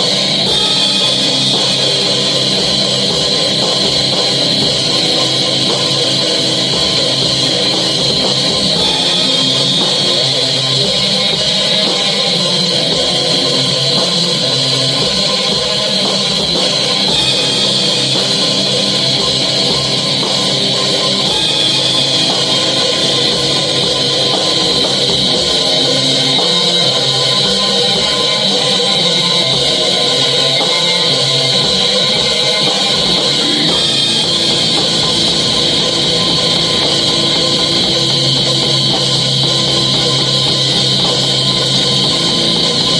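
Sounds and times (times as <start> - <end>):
distorted electric guitars: 0.0 - 42.9
drum kit: 0.0 - 42.9.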